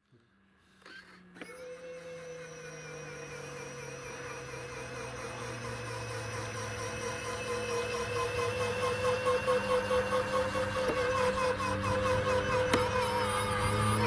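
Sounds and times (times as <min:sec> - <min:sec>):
electric motor whine: 0:00.1 - 0:14.0.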